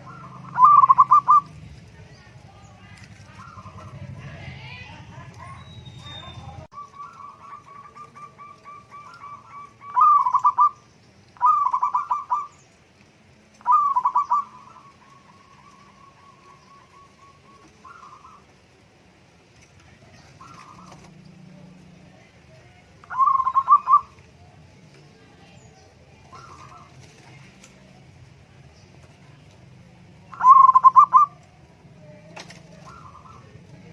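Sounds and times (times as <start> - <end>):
dove cooing: 0.0 - 12.6, 13.6 - 18.9, 19.7 - 28.1, 30.1 - 33.9.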